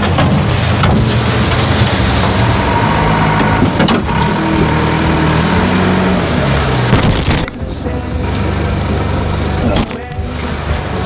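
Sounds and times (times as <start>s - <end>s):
diesel engine running hard: 0.0s - 11.0s.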